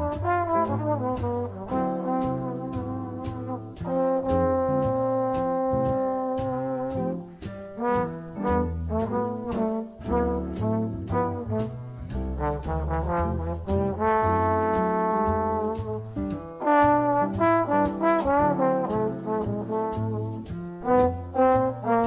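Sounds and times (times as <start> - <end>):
instrumental music with brass melody: 0.0 - 22.0.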